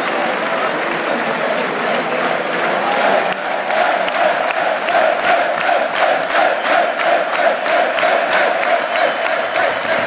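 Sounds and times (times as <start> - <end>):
rhythmic clapping: 0.0 - 10.0
stadium crowd chanting: 0.1 - 10.0.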